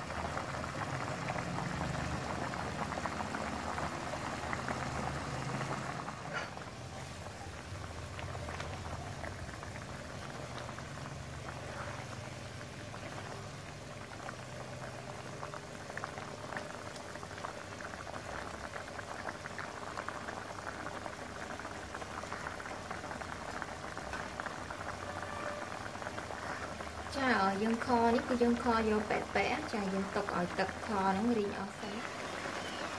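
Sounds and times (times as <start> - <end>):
braising liquid bubbling: 0.0 - 32.9.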